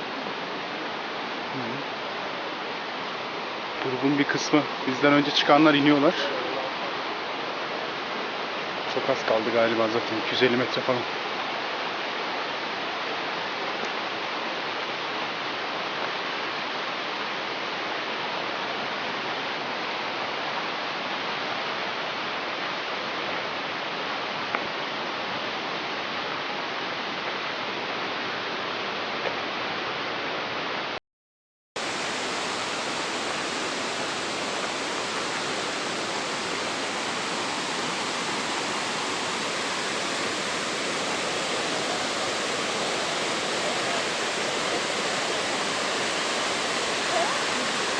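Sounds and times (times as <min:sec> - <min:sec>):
rushing mountain stream: 0:00.0 - 0:31.0, 0:31.8 - 0:47.9.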